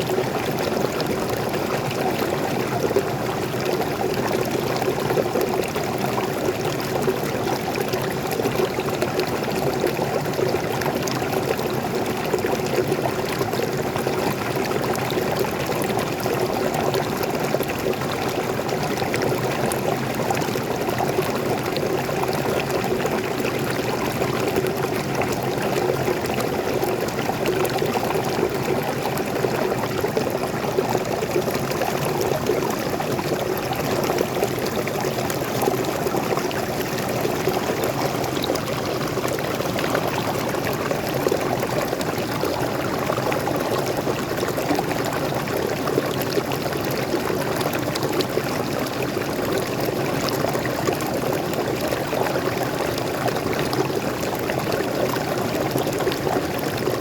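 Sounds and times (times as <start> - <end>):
small waterfall pouring and splashing: 0.0 - 57.0.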